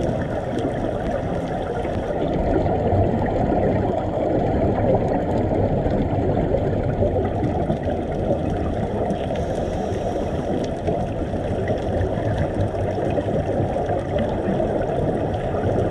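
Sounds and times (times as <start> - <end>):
faint crackles: 0.0 - 15.9
muffled underwater rumble: 0.0 - 15.9.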